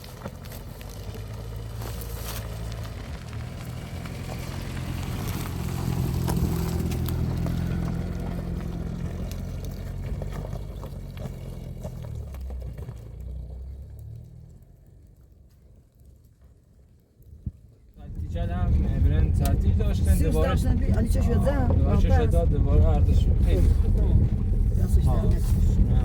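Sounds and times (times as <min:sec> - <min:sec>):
car engine running: 0:00.0 - 0:15.7, 0:18.0 - 0:26.0.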